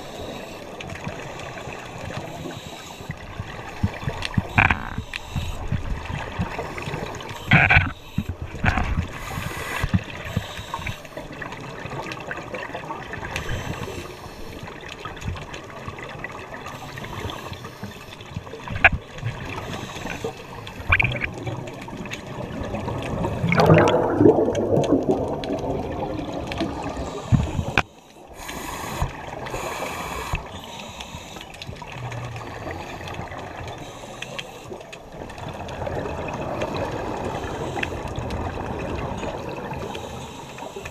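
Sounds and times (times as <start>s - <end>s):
exhaled bubbles gurgling: 0.0s - 40.9s
muffled underwater noise: 0.0s - 40.9s.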